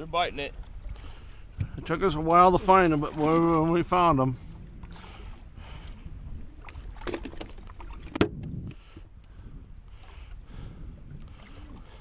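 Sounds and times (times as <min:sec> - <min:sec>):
water noise: 0:00.0 - 0:12.0
wind noise: 0:00.5 - 0:12.0.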